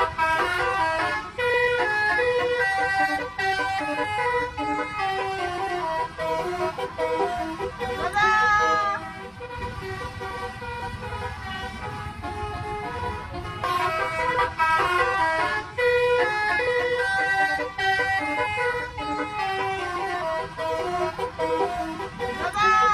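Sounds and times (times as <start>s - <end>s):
air horns playing a melody: 0.0s - 22.9s
bus engine running: 0.0s - 22.9s.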